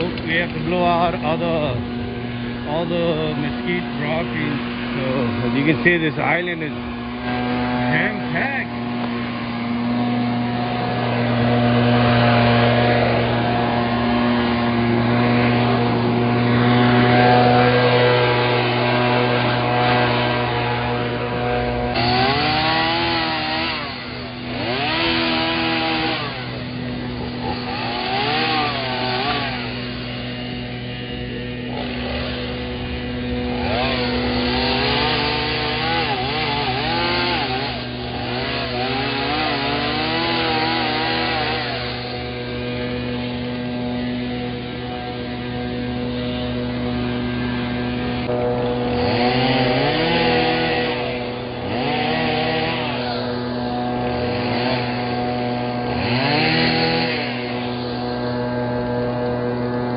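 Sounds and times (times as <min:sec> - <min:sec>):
small gas engine running: 0:00.0 - 0:59.9.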